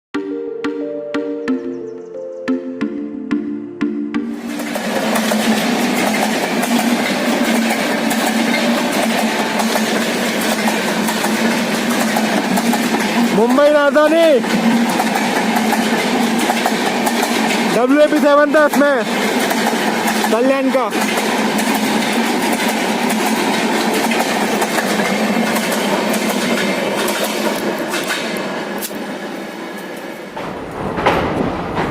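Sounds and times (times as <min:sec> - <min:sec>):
train wheels rumbling: 0:04.2 - 0:31.9.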